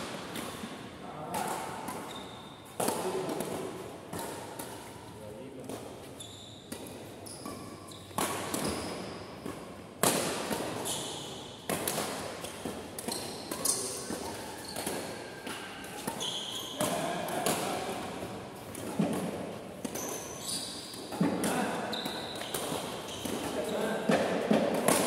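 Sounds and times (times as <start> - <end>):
rackets hitting shuttlecock: 0.0 - 25.0.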